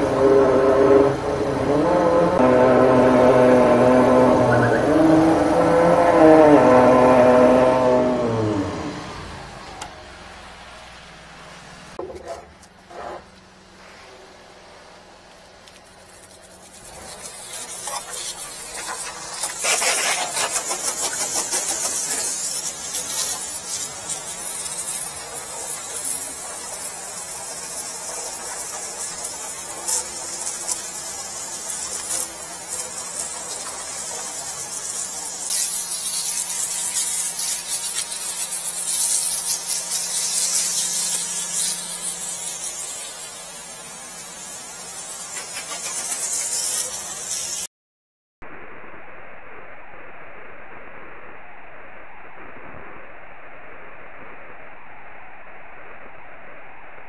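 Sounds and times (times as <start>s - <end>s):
dull rushing noise: 0.0s - 47.4s, 48.4s - 57.0s
steady low hum: 0.0s - 47.4s, 48.4s - 57.0s
high-pressure water spray hissing: 0.0s - 47.7s.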